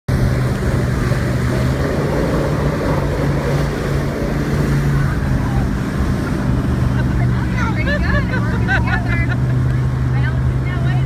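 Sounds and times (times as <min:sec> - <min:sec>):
motorboat engine humming: 0:00.1 - 0:11.0
water churning in wake: 0:00.1 - 0:11.0.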